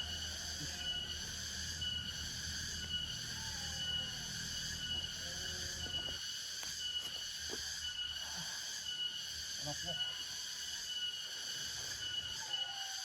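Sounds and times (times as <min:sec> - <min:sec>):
forest insects droning: 0:00.0 - 0:13.0
shrill pulsing insect tone: 0:00.0 - 0:13.0.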